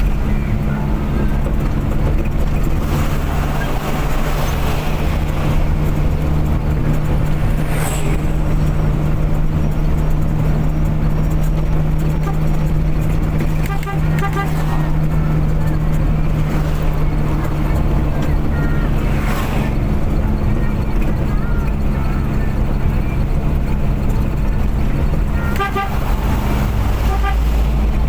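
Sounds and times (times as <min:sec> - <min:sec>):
car engine drone: 0:00.0 - 0:28.0
road noise: 0:00.0 - 0:28.0.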